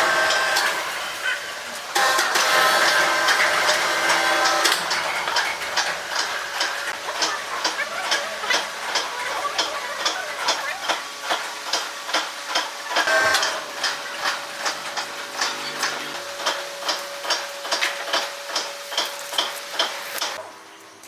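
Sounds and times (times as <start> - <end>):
machinery hum and hiss: 0.0 - 21.0
sawmill machinery clicking: 0.0 - 21.0
loud clatter: 1.9 - 20.4.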